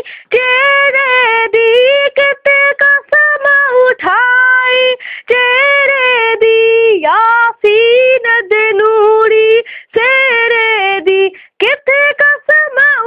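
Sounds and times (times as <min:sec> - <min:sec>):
girl singing solo: 0:00.0 - 0:13.0.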